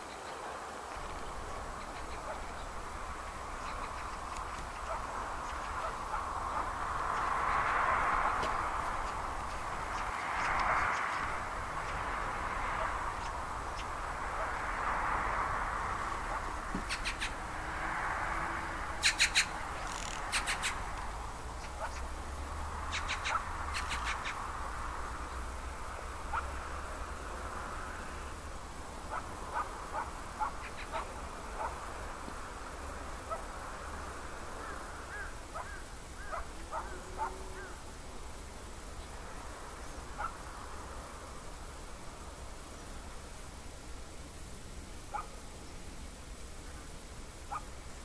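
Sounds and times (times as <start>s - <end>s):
outdoor background hiss: 0.0s - 48.0s.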